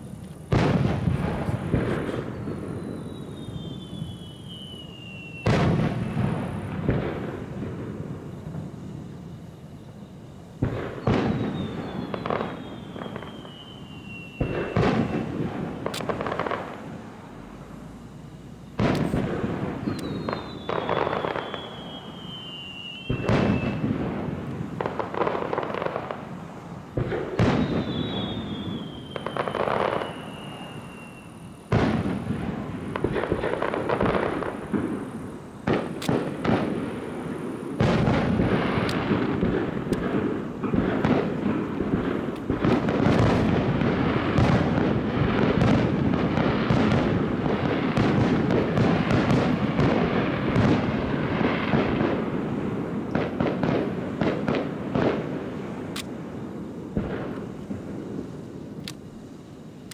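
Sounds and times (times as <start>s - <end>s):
descending firework whistle: 0.0s - 58.6s
fireworks booming: 0.0s - 59.9s
fireworks crackling: 0.0s - 59.9s.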